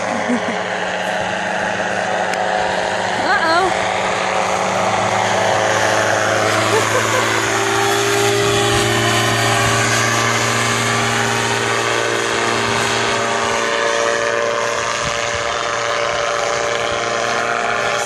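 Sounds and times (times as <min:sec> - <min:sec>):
engine and propeller running: 0:00.0 - 0:18.0.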